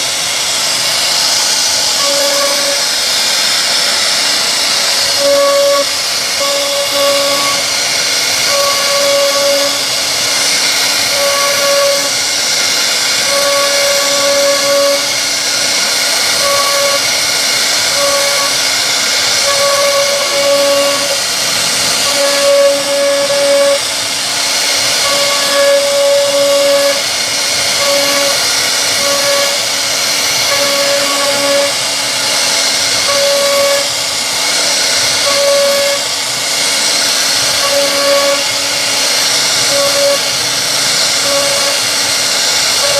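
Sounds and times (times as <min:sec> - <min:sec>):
router high-pitched hiss: 0:00.0 - 0:42.9
router whine: 0:00.0 - 0:42.9.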